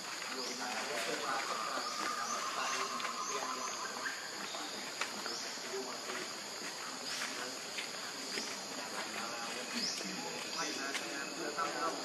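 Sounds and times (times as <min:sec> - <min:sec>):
insect chorus droning: 0:00.0 - 0:12.0.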